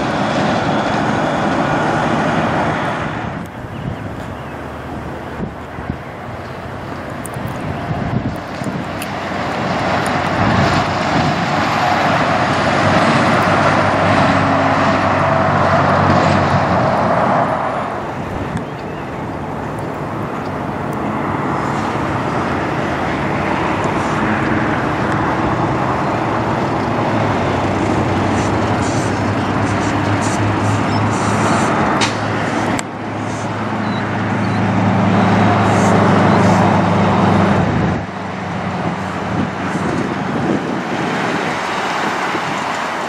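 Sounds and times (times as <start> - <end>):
diesel truck rolling slowly: 0.0 - 43.0
truck passing: 0.0 - 43.0.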